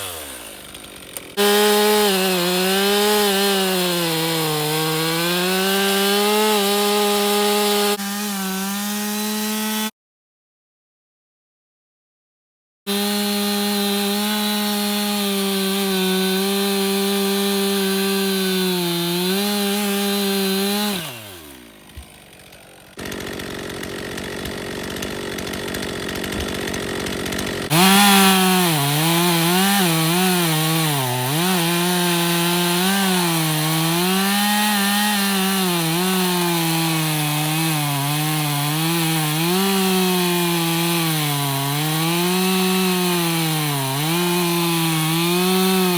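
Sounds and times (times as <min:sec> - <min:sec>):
chainsaw engine running: 0:00.0 - 0:09.9, 0:12.9 - 0:45.9
chainsaw cutting wood: 0:00.0 - 0:10.0, 0:12.9 - 0:45.9.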